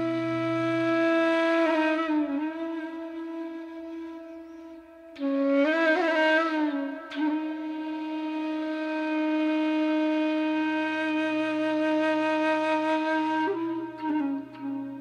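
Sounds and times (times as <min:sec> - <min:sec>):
meditative flute music: 0:00.0 - 0:15.0.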